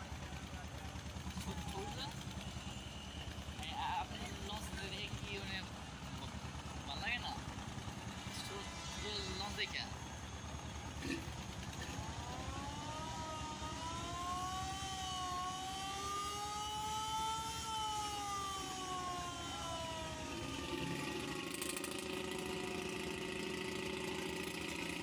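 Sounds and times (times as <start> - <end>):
engine throbbing: 0.0 - 25.0.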